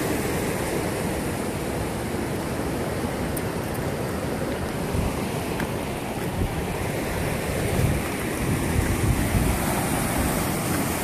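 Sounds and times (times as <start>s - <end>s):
river rapids rushing over rock: 0.0s - 11.0s.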